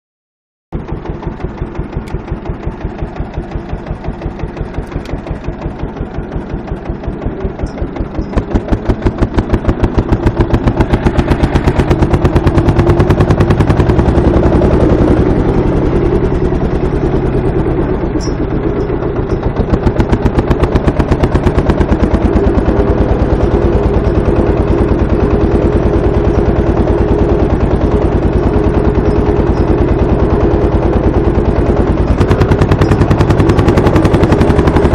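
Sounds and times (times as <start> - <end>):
tractor diesel engine thumping: 0.7 - 34.9.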